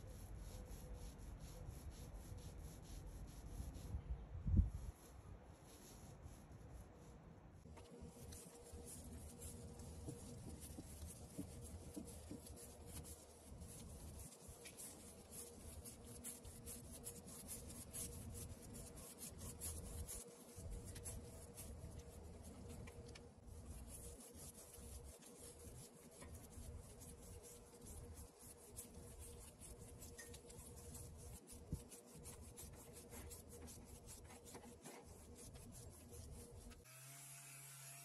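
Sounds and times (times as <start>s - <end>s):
dry paintbrush scratching: 0.0s - 36.9s.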